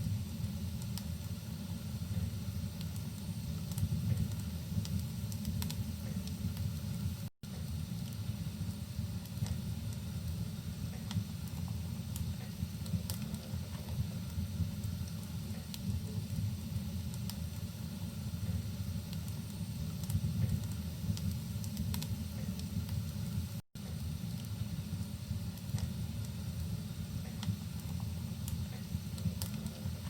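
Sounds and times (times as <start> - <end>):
faint rain hiss: 0.0 - 30.0
wood fire crackling: 0.0 - 30.0.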